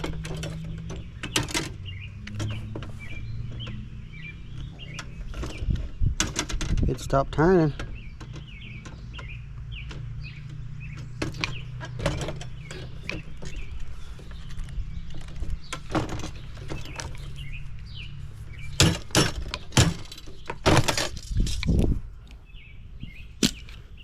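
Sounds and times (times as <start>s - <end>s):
tools knocking and clanking on metal: 0.0s - 3.9s, 4.5s - 17.4s, 18.7s - 21.8s.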